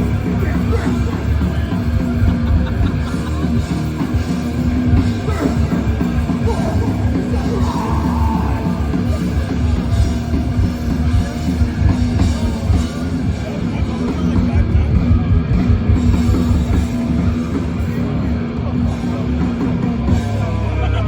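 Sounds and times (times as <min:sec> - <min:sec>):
death metal band playing live: 0:00.0 - 0:21.0.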